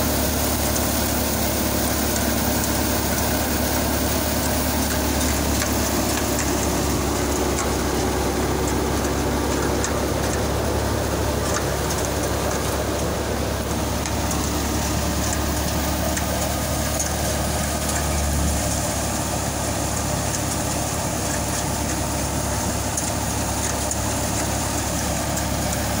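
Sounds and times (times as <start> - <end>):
thresher mechanical drone: 0.0 - 26.0.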